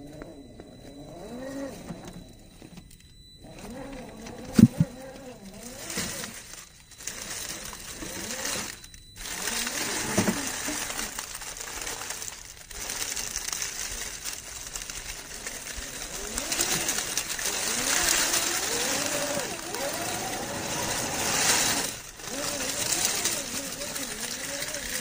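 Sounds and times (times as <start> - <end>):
electric motor and gearbox whine: 0.0 - 25.0
tyres crunching over rock and leaves: 3.4 - 25.0.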